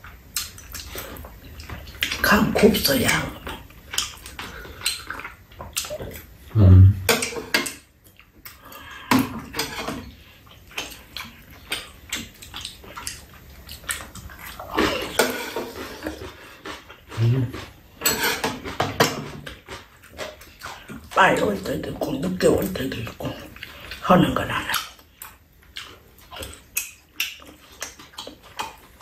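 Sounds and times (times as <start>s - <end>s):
people chewing and slurping: 0.0s - 29.0s.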